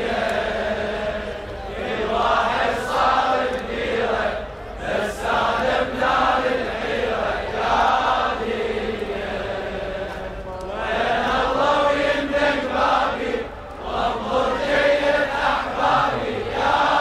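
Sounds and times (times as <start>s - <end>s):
mourners chanting in unison: 0.0s - 17.0s.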